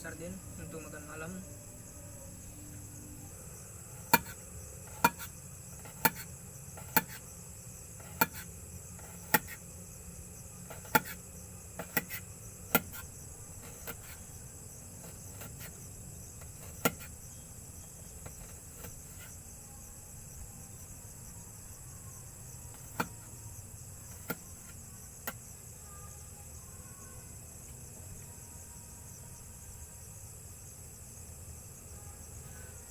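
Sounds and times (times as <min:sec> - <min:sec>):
crickets chirring: 0:00.0 - 0:32.9.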